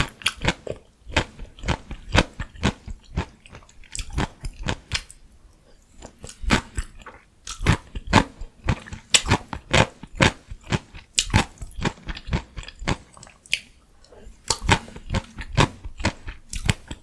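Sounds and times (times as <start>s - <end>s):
chewing crunchy vegetables: 0.0s - 17.0s.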